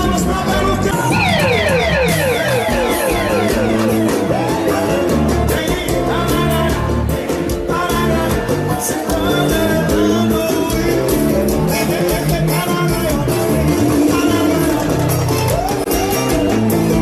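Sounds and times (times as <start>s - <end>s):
lead vocal singing: 0.0s - 16.8s
bass: 0.0s - 17.0s
keyboard: 0.0s - 17.0s
steady percussion beat: 0.0s - 17.0s.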